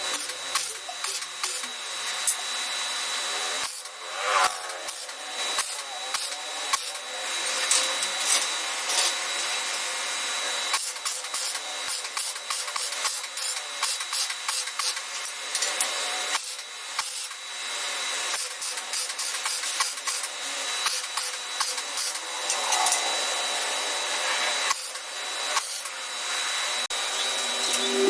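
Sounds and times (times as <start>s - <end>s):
angle grinder on steel: 0.0s - 28.0s.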